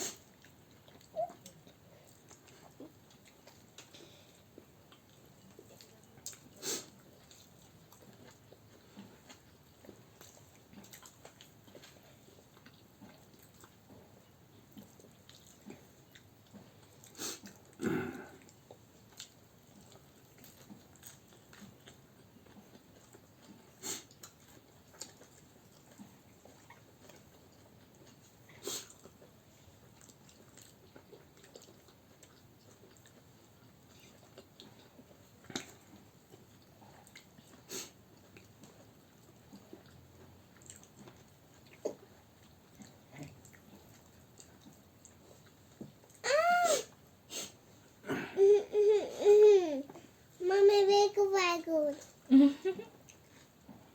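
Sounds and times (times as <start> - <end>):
faint chewing: 0.0 - 53.9.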